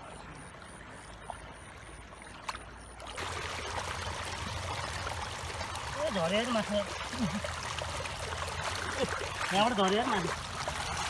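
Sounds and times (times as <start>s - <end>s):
rush of water: 0.0s - 11.0s
water trickling: 0.0s - 11.0s.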